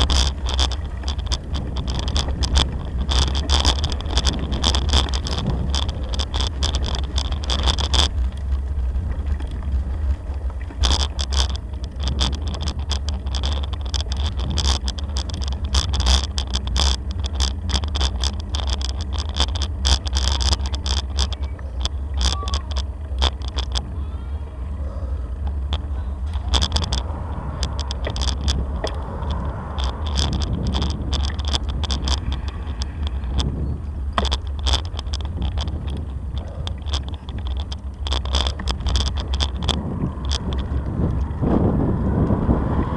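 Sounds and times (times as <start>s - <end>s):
bicycle rolling on gravel: 0.0s - 42.9s
bike rattling and clicking: 0.0s - 42.9s
wind on microphone: 0.0s - 42.9s.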